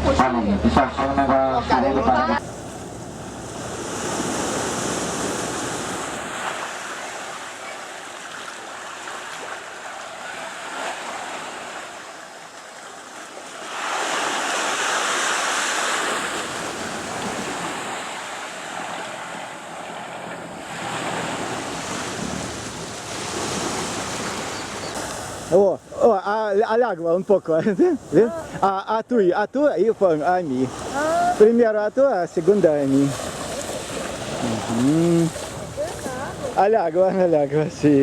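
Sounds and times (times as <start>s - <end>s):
sea water surging: 0.0s - 28.8s, 30.0s - 38.0s.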